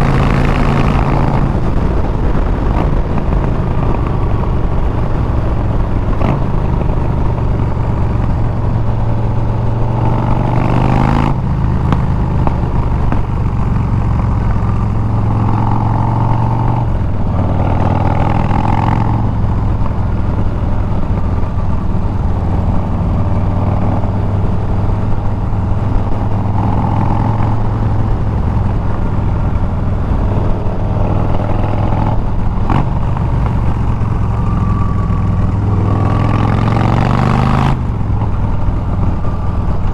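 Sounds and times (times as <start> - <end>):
loud motorcycle engine: 0.0 - 39.9.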